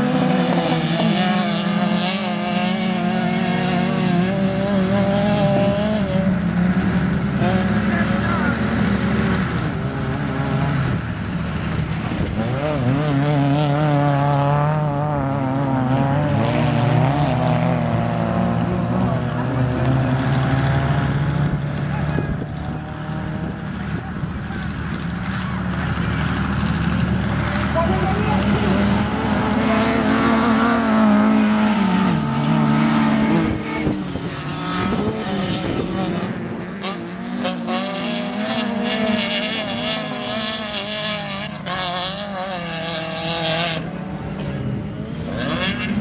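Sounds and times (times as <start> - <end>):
race car engines revving: 0.0 - 46.0.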